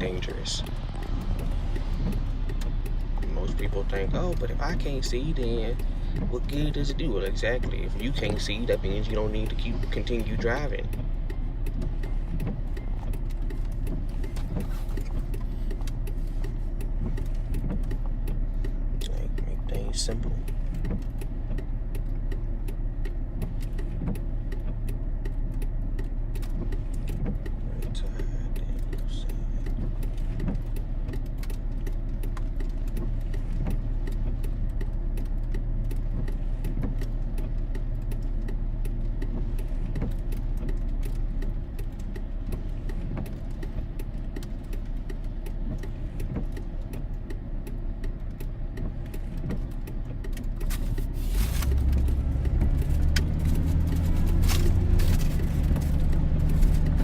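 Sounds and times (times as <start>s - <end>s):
raindrops clicking: 0.0s - 57.0s
road and engine rumble: 0.0s - 57.0s.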